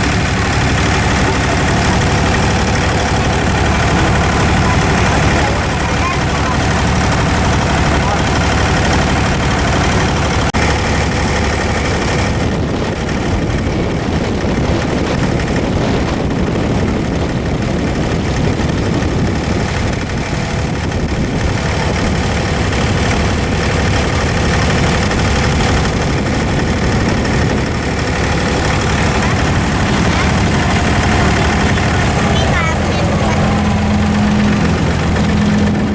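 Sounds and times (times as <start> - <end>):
boat diesel engine running: 0.0 - 35.9.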